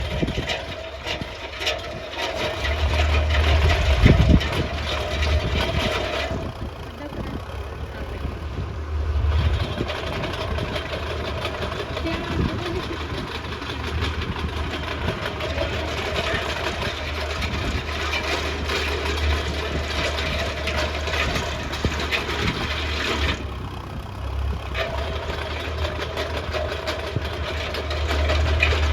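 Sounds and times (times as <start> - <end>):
drilling machine rumbling: 0.0 - 28.9.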